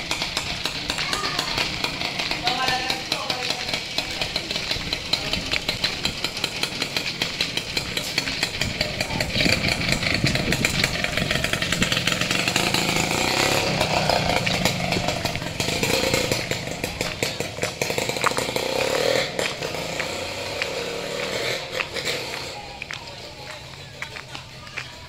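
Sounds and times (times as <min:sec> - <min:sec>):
small engine buzzing rattle: 0:00.0 - 0:22.6.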